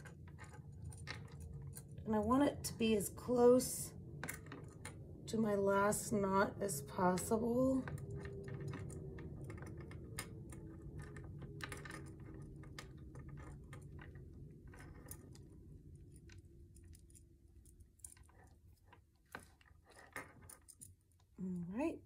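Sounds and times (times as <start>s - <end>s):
wooden beads clicking: 0.0s - 2.1s, 4.0s - 5.3s, 6.8s - 21.4s
low hum: 0.0s - 22.0s.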